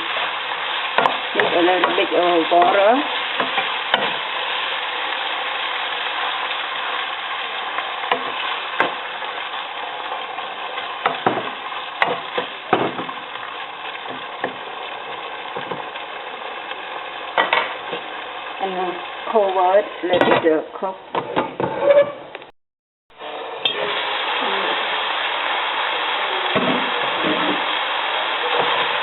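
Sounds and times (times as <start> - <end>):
meat sizzling in a pan: 0.0 - 20.8, 23.2 - 29.0.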